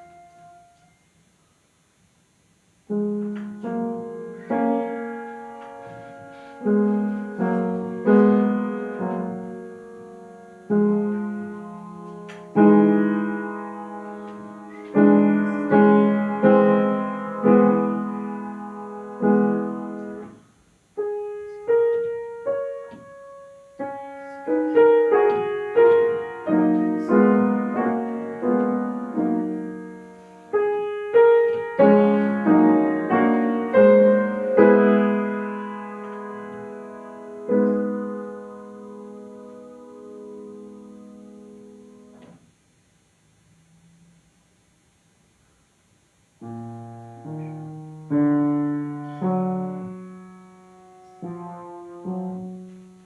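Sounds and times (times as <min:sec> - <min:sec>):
slow classical piano piece: 0:00.0 - 0:01.7, 0:02.8 - 0:42.6, 0:45.7 - 0:53.0.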